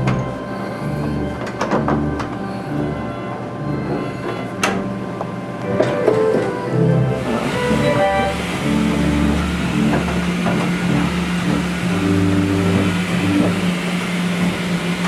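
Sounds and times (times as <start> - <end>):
pipe organ deep bass notes: 0.0 - 15.0
steady held organ tone: 0.0 - 15.0.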